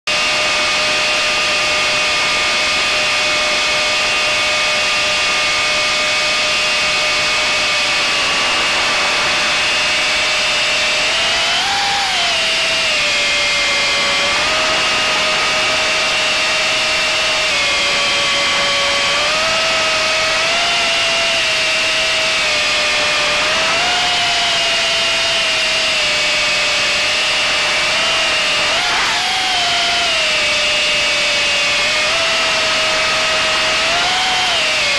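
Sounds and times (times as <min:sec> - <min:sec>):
quadcopter propellers whining: 0:00.1 - 0:34.9.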